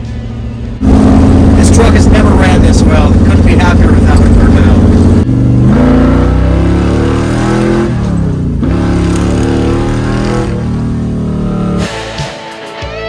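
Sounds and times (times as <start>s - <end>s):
truck engine revving: 0.0s - 12.2s.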